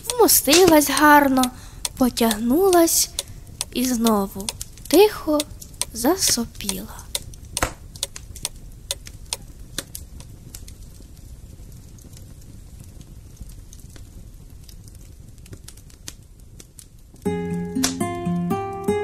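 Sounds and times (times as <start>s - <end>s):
wood fire crackling: 0.0s - 18.6s.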